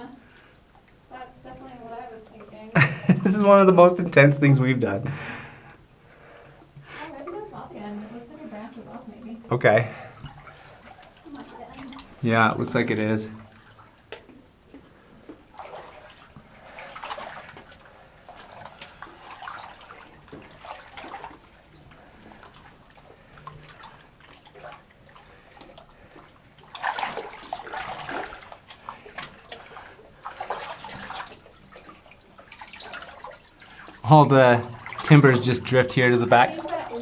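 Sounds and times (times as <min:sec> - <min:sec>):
wading through water: 0:00.0 - 0:37.0.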